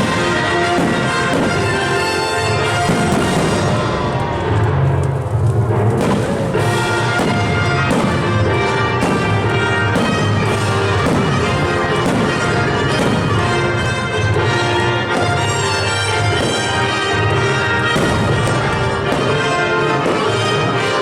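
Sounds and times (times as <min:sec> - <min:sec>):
orchestral music with brass and timpani: 0:00.0 - 0:21.0.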